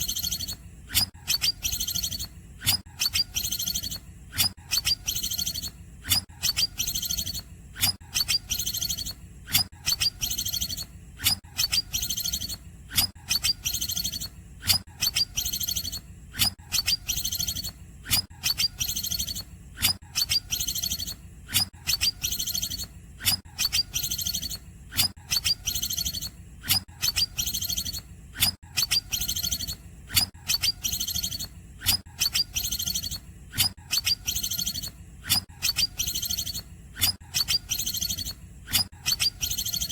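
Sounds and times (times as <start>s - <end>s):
bird chirping rapidly: 0.0s - 39.9s
steady low hum: 0.0s - 39.9s.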